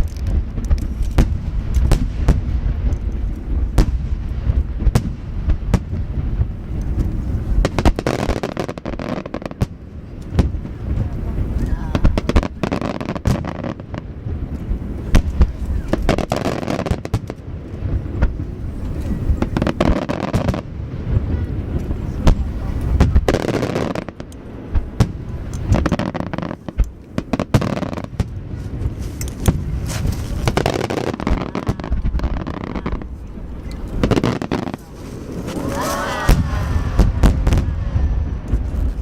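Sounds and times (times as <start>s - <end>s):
continuous rumble: 0.0s - 39.0s
firework crackling: 0.0s - 39.0s
firework shells booming: 0.0s - 39.0s.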